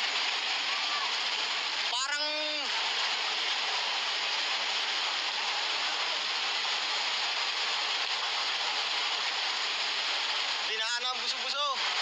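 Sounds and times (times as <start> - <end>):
floodwater torrent rushing: 0.0 - 12.0
heavy rain: 0.0 - 12.0.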